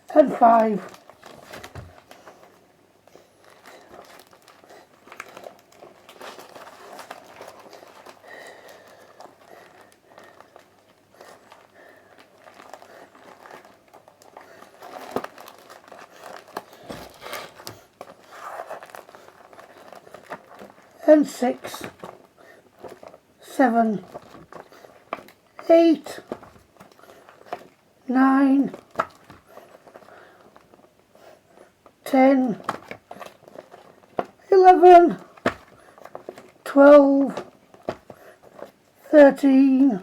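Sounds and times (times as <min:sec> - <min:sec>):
small clicks and crackles: 0:00.0 - 0:34.5, 0:35.1 - 0:40.0
comic books and packaging rustling: 0:00.0 - 0:40.0.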